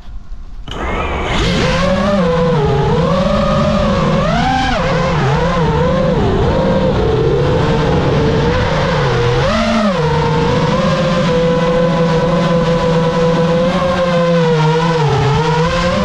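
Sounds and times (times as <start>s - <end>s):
quadcopter motors whining: 0.6s - 16.0s.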